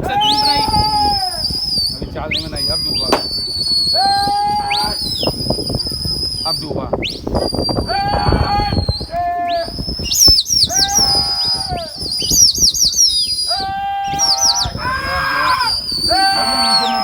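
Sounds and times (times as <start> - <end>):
shrill whistles: 0.0 - 17.0.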